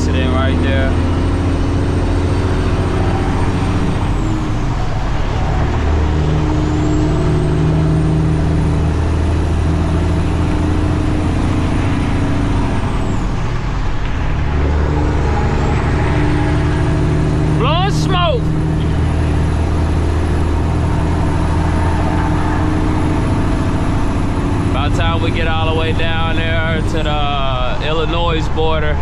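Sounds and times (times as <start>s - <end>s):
road noise: 0.0s - 29.0s
truck diesel engine: 0.0s - 29.0s.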